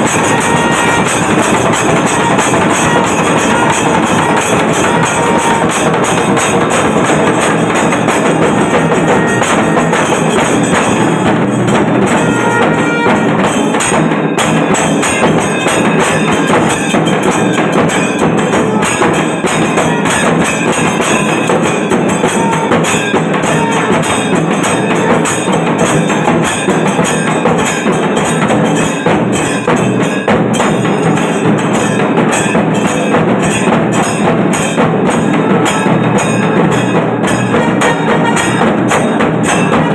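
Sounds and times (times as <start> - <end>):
fast loud drumming: 0.0 - 39.9
rapidly struck cymbals: 0.0 - 39.9.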